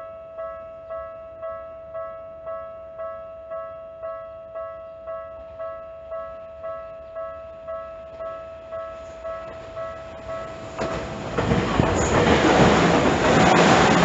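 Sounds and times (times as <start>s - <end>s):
level-crossing bell clanging: 0.0s - 14.0s
train wheel and rail noise: 0.0s - 14.0s.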